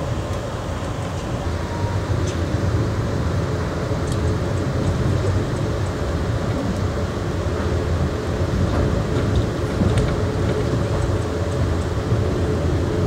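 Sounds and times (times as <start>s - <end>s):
train car rumbling on track: 0.0s - 13.0s.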